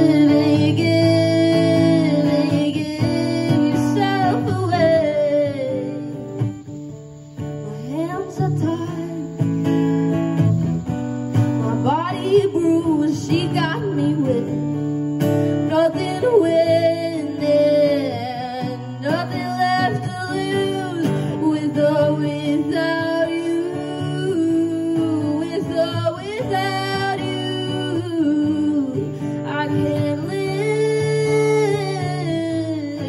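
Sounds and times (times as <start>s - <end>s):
woman singing: 0.0s - 6.6s, 7.7s - 9.7s, 11.4s - 33.0s
strummed acoustic guitar: 0.0s - 33.0s.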